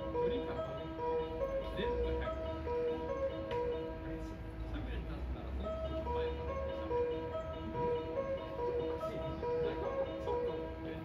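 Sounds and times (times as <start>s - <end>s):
electronic melody over speakers: 0.0s - 11.0s.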